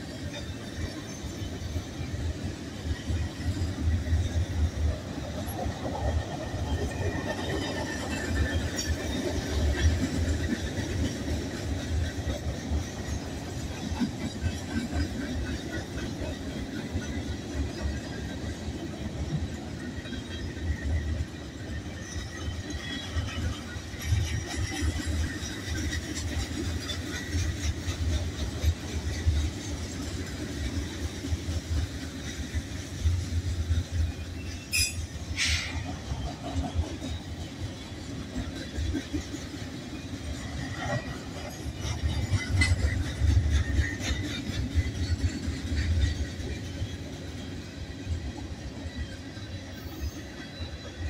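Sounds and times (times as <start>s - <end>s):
steel wheels rumbling on rail: 0.0s - 51.0s.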